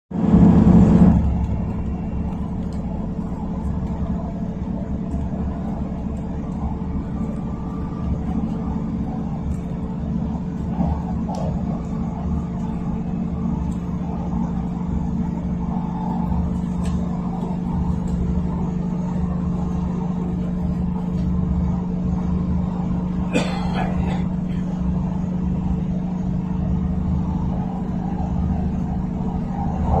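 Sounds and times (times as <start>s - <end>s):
train carriage rumble and hum: 0.0s - 30.0s.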